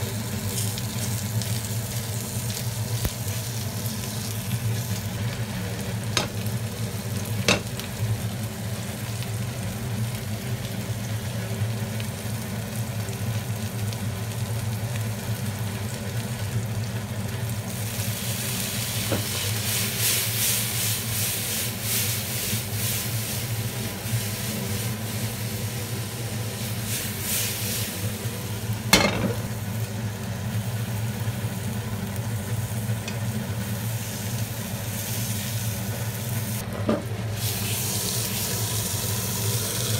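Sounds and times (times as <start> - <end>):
fish sizzling in oil: 0.0 - 39.9.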